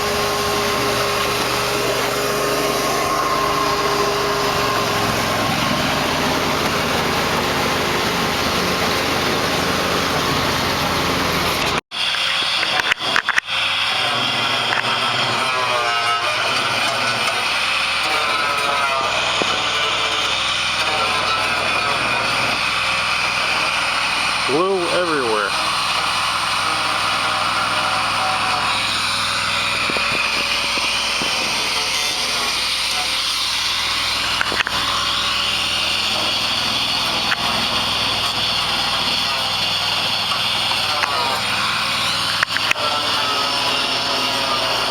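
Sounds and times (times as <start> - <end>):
small engine running: 0.0 - 44.9.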